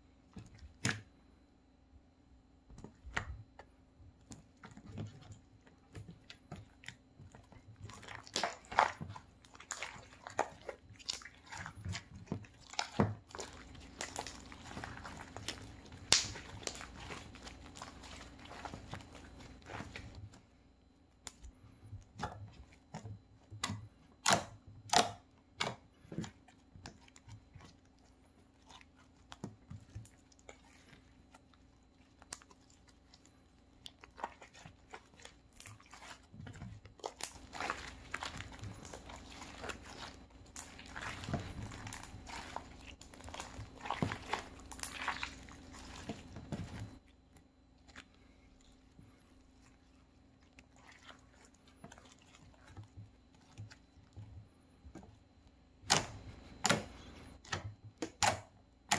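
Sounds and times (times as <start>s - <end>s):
slime squelching with wet pops: 0.3s - 1.2s, 2.7s - 58.9s.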